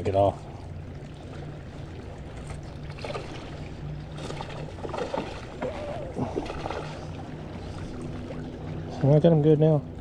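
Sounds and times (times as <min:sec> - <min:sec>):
water splashing and gurgling: 0:00.0 - 0:09.3.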